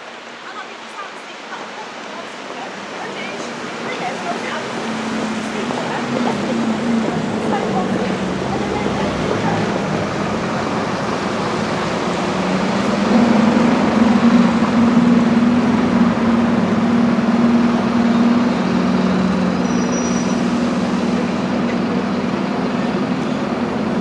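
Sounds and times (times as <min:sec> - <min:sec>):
traffic noise: 0:00.0 - 0:24.0
vehicle engine droning: 0:04.0 - 0:24.0.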